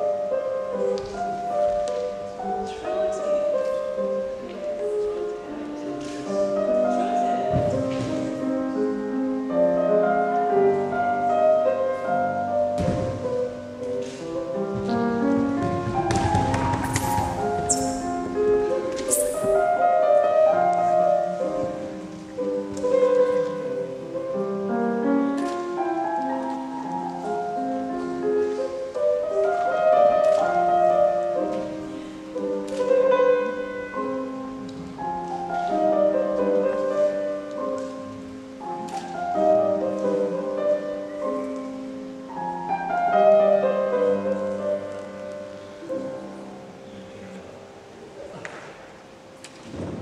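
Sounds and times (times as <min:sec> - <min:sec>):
piano-like instrumental melody: 0:00.0 - 0:47.9.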